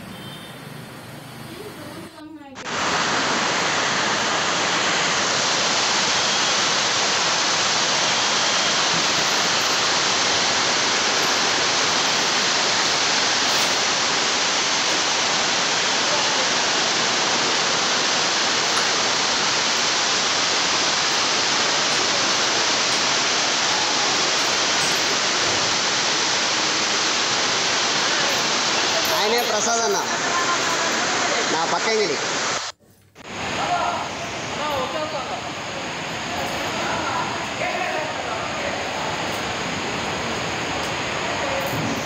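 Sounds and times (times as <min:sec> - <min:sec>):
heavy rain: 0:00.0 - 0:42.0
rushing floodwater: 0:02.6 - 0:42.0.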